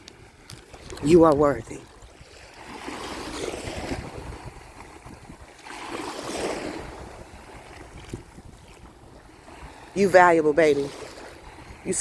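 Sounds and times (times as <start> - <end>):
ocean surf on beach: 0.0 - 12.0
wind on microphone: 0.0 - 12.0.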